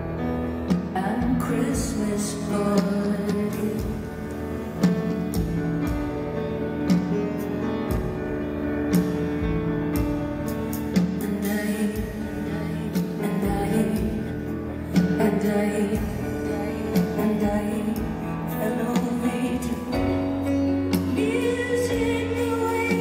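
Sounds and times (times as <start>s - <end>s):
live concert music with piano: 0.0s - 23.0s.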